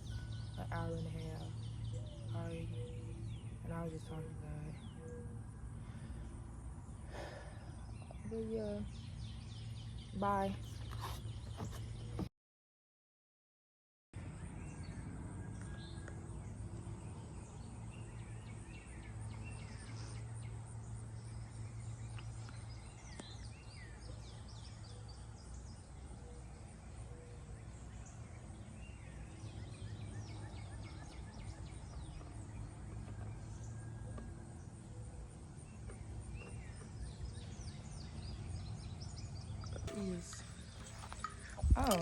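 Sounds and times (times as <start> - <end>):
birds chirping: 0.0 - 12.3, 14.2 - 42.0.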